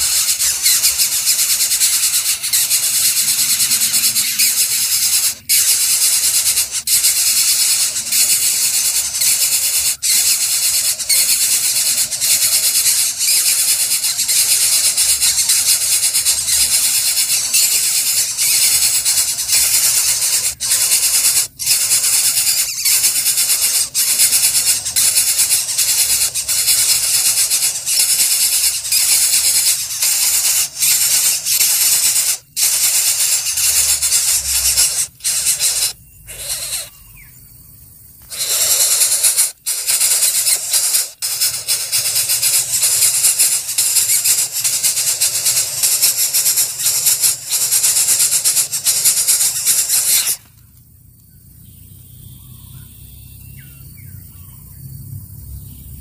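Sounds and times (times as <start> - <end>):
nestlings rasping hiss: 0.0 - 37.0, 38.2 - 50.5.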